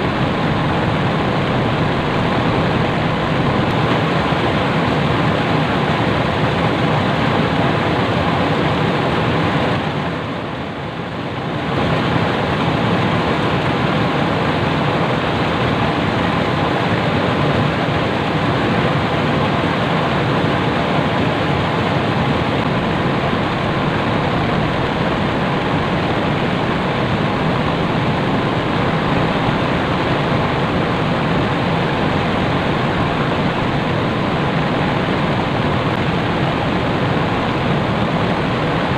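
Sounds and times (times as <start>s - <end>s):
fast-flowing river water: 0.0s - 38.9s.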